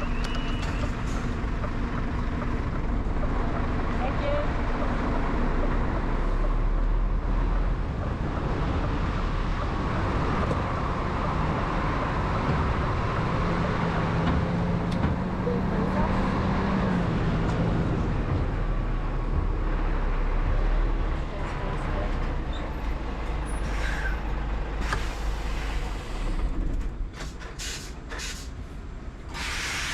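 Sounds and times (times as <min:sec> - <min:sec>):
heavy vehicle engine running: 0:00.0 - 0:29.9.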